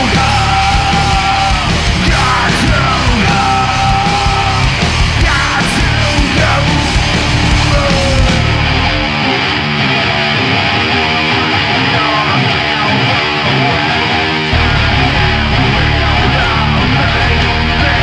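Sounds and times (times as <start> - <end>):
distorted electric guitars: 0.0 - 18.0
live heavy metal band playing: 0.0 - 18.0.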